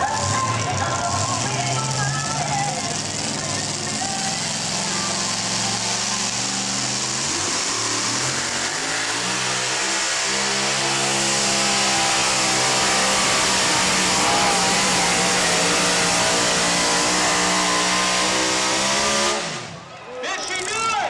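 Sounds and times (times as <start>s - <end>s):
truck engine revving high: 0.0s - 20.6s.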